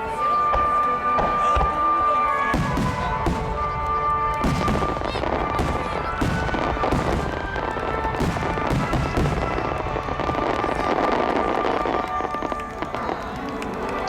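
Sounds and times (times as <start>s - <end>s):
fireworks bursting with crackle: 0.0s - 14.0s
music over loudspeakers: 0.0s - 14.0s.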